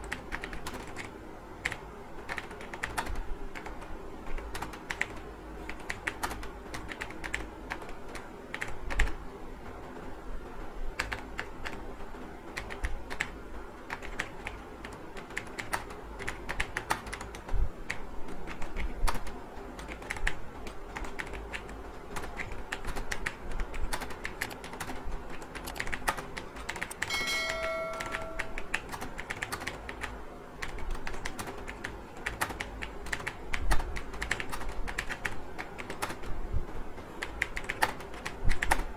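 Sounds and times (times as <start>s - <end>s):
fast keyboard typing: 0.0s - 9.2s, 11.0s - 36.4s, 37.0s - 38.9s.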